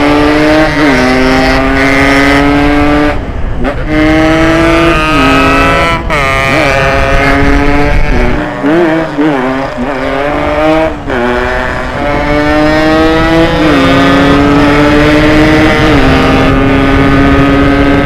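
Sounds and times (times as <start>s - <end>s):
two-stroke engine accelerating: 0.0s - 18.0s.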